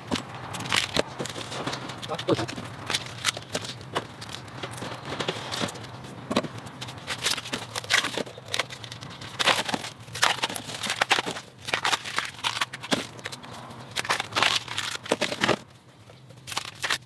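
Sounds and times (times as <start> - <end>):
husk crackling and tearing: 0.0 - 17.0.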